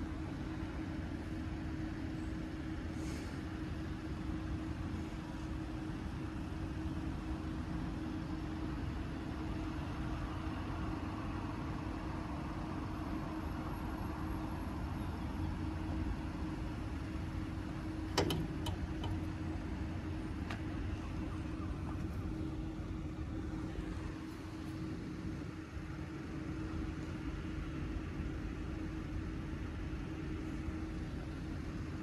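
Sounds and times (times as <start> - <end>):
constant hum: 0.0 - 32.0
wind: 0.0 - 32.0
road traffic rumble: 0.1 - 32.0.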